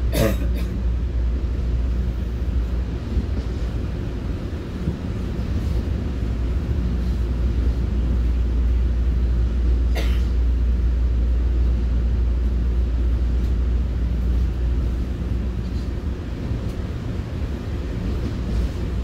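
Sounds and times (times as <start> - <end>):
train rumbling inside coach: 0.0 - 19.0.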